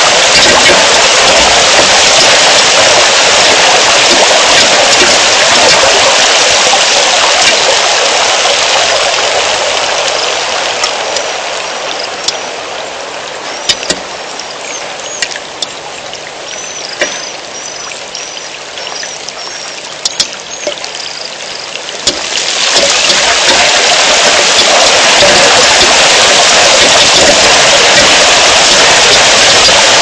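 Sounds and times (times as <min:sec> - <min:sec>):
rain falling: 0:00.0 - 0:30.0
raindrops ticking on microphone: 0:00.0 - 0:30.0.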